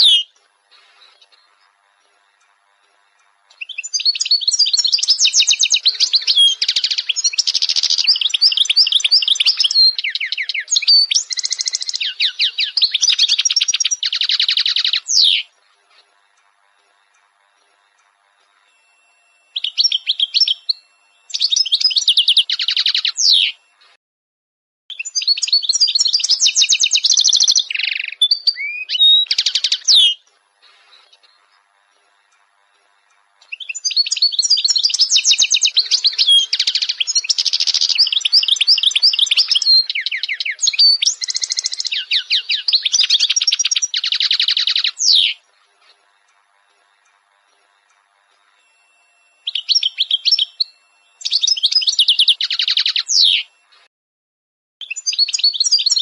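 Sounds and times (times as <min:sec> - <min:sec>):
small birds chirping: 0:00.0 - 0:23.7, 0:24.9 - 0:53.8, 0:54.8 - 0:56.0.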